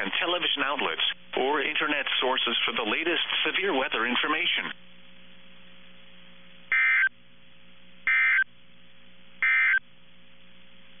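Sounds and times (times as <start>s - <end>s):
radio hiss and hum: 0.0s - 9.8s.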